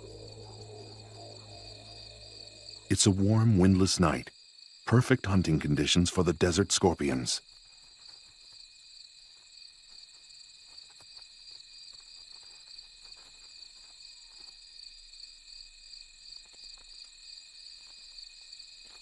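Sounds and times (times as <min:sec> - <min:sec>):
crickets and insects trilling: 0:00.0 - 0:19.0.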